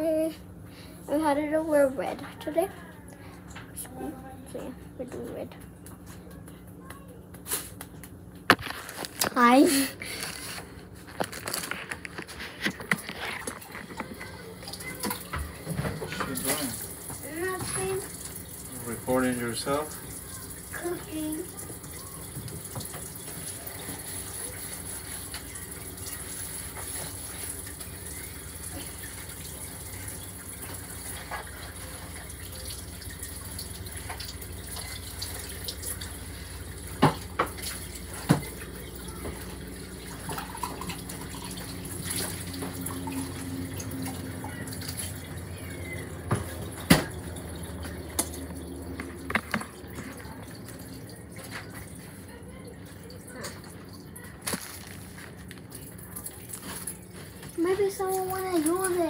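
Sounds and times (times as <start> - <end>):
steady kitchen hiss: 7.4 - 47.8, 49.3 - 59.0.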